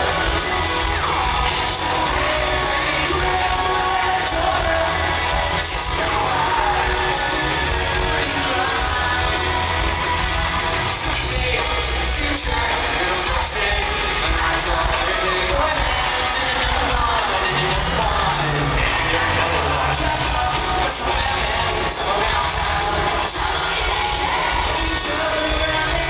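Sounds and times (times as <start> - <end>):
live pop-rock band: 0.0 - 26.0
person singing: 0.0 - 26.0.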